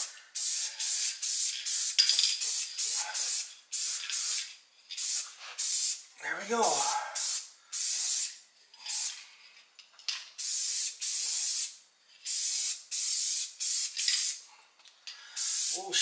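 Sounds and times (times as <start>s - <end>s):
aerosol spray hissing bursts: 0.0s - 6.0s, 6.7s - 9.2s, 10.4s - 14.4s, 15.4s - 16.0s.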